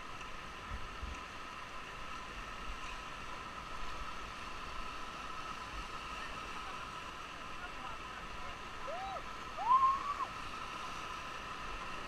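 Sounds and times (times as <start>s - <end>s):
whitewater rapids rushing: 0.0s - 12.0s.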